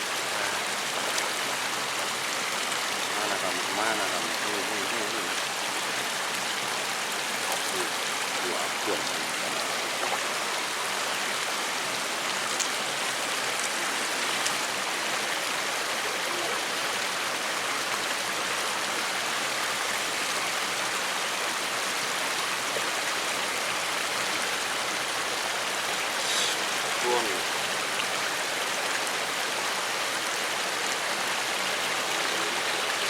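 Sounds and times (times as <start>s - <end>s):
flowing water in a stream: 0.0s - 33.0s.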